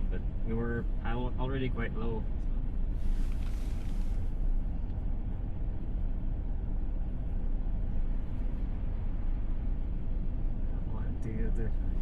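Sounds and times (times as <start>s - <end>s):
car road and tyre rumble: 0.0s - 12.0s.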